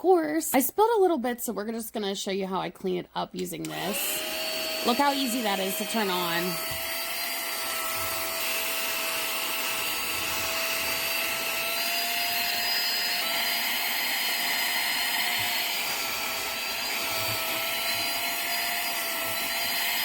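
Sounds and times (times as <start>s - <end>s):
handheld vacuum motor whine: 3.6s - 20.0s.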